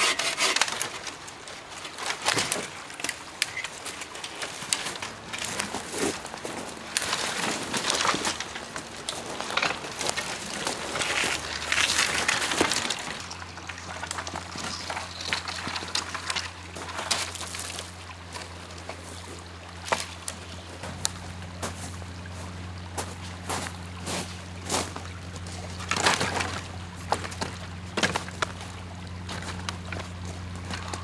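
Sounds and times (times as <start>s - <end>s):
dry branches snapping: 0.0s - 18.5s, 19.8s - 21.9s, 25.4s - 31.0s
low steady hum: 0.0s - 31.0s.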